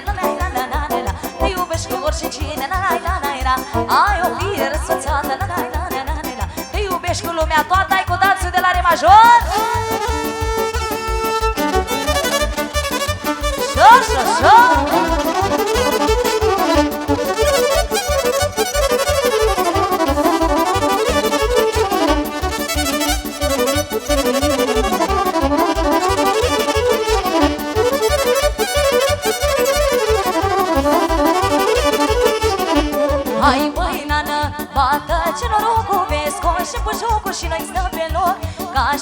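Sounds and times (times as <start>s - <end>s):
band playing folk dance tune: 0.0s - 38.9s.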